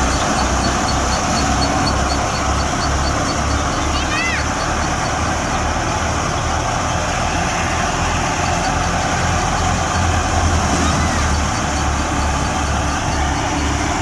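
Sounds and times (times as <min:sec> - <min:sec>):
thresher mechanical noise: 0:00.0 - 0:14.0
tractor diesel engine running: 0:00.0 - 0:14.0.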